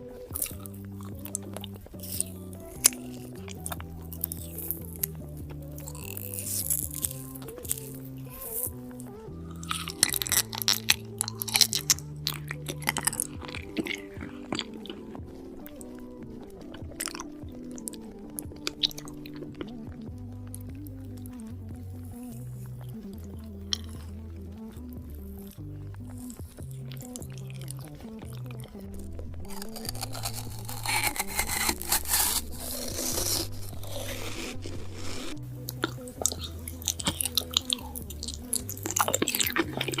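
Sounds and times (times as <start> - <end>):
chewing and crunching food: 0.0 - 40.0
soft background music: 0.0 - 40.0.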